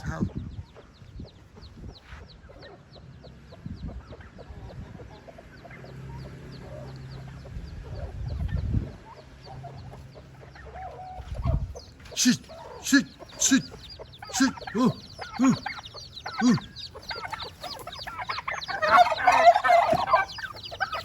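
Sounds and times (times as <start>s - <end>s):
chicks peeping: 0.0s - 21.0s
hens clucking: 0.0s - 21.0s.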